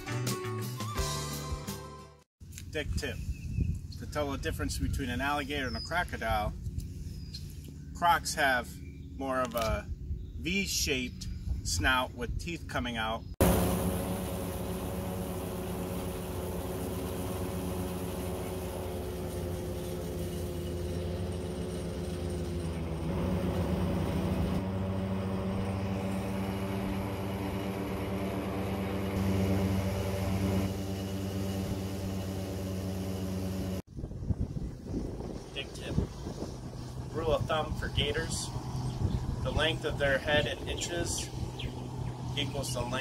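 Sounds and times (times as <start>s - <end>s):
airboat engine and propeller: 3.7s - 43.0s.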